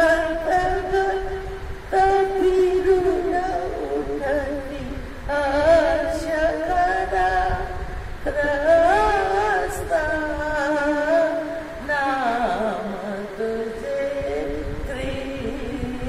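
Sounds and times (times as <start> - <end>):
elderly woman singing a hymn: 0.0 - 16.0.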